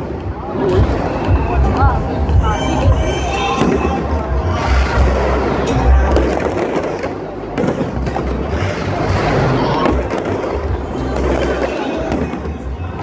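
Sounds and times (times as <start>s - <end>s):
fireworks bangs and crackling: 0.0s - 13.0s
heavy low rumble: 0.0s - 13.0s.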